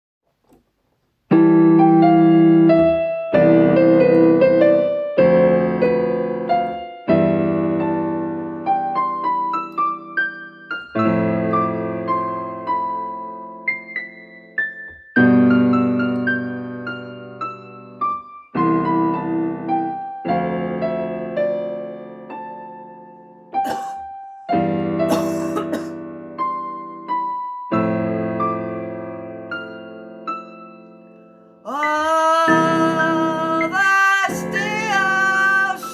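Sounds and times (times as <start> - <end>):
slow piano music: 1.3 - 35.9.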